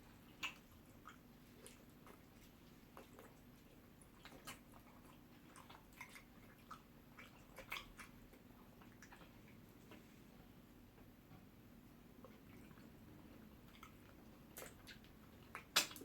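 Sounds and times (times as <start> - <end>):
wet chewing and mouth smacks: 0.1 - 10.2, 12.2 - 16.0.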